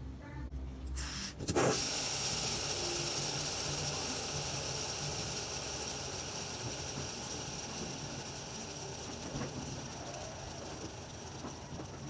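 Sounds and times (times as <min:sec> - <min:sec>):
fidget spinner whirring: 0:00.8 - 0:12.0
fidget spinner clatter: 0:01.4 - 0:12.0.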